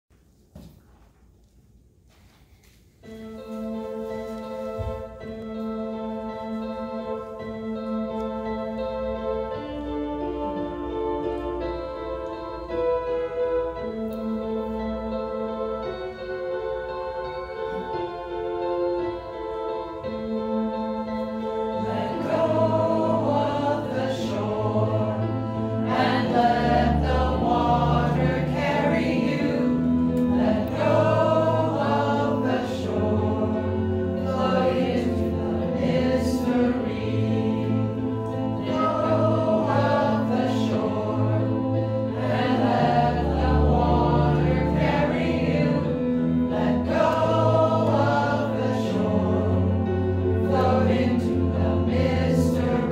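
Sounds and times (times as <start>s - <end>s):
keyboard accompaniment: 2.8s - 52.9s
choir singing: 3.0s - 52.9s.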